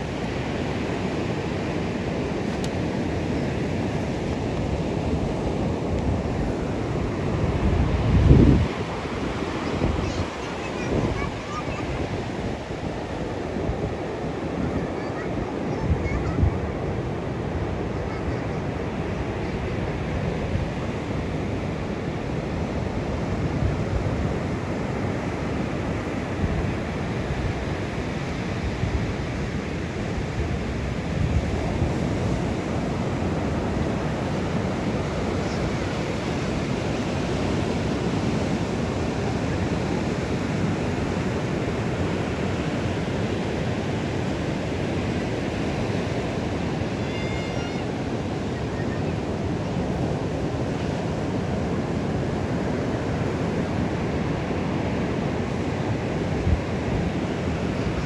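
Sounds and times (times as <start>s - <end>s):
wind buffeting microphone: 0.0s - 47.0s, 47.8s - 58.0s
sea surf breaking: 0.0s - 58.0s.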